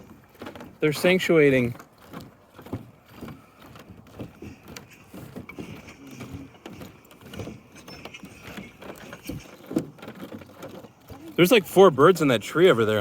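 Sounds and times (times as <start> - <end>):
footsteps on wooden footbridge: 0.0 - 13.0.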